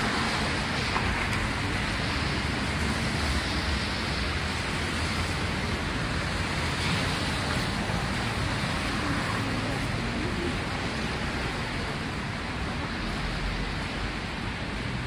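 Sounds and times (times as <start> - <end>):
traffic on a wet street: 0.0 - 15.0.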